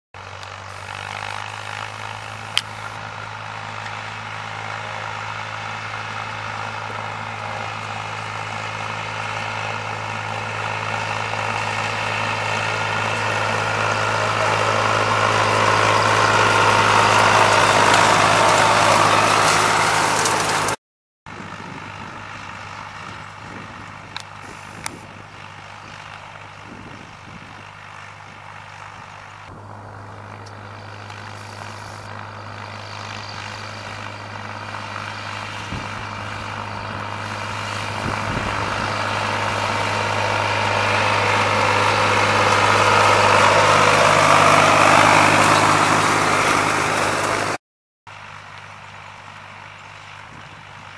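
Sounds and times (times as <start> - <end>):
tractor diesel engine running: 0.2 - 50.9.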